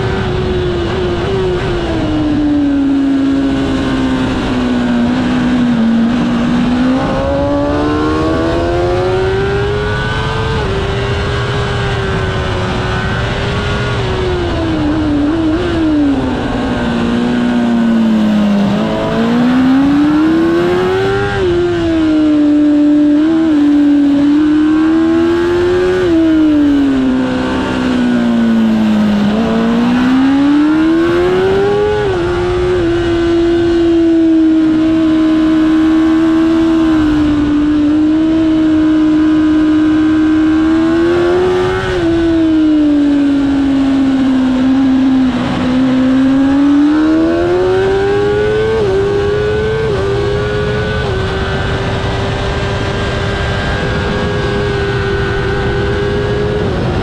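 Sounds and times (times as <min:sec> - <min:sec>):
motorcycle engine at racing revs: 0:00.0 - 0:57.0
wind rush: 0:00.0 - 0:57.0.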